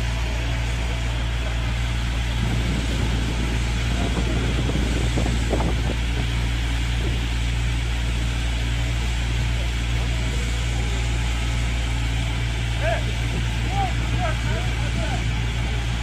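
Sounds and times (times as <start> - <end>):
faint voices: 0.0 - 16.0
fire engine humming: 0.0 - 16.0.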